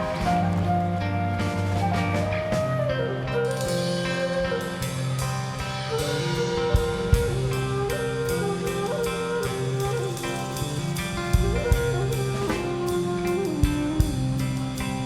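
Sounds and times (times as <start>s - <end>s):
instrumental music with drum beat: 0.0s - 15.0s.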